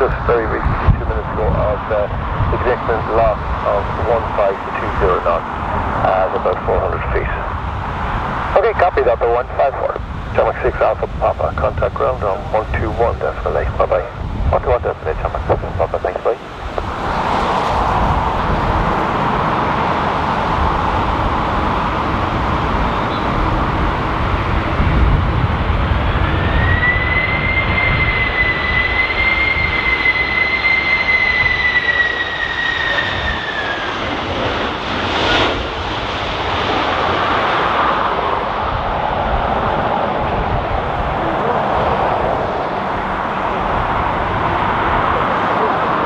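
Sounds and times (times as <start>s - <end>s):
wind buffeting microphone: 0.0s - 30.0s, 38.2s - 46.0s
high jet engine whine: 0.0s - 46.0s
jet engines roaring: 0.0s - 46.0s.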